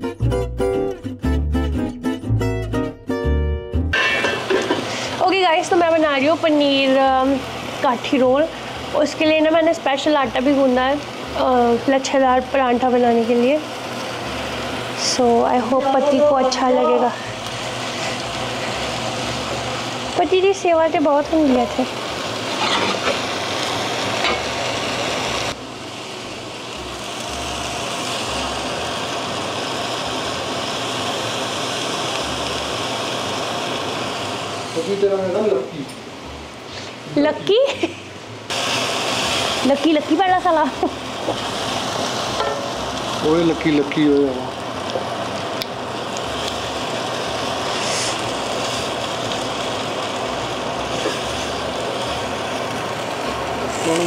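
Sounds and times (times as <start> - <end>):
food sizzling in a frying pan: 3.2 - 54.0.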